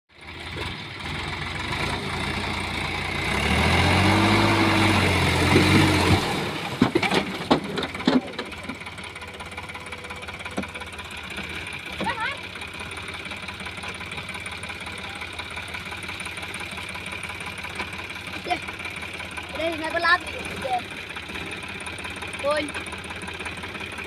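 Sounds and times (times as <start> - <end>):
tractor diesel engine: 0.1 - 24.0.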